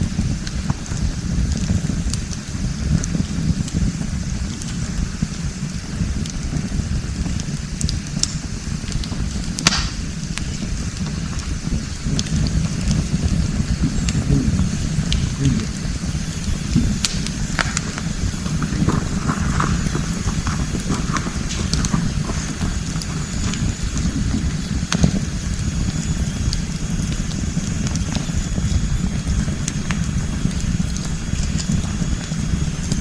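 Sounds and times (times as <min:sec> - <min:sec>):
campfire crackling and popping: 0:00.0 - 0:33.0
low fire rumble: 0:00.0 - 0:33.0.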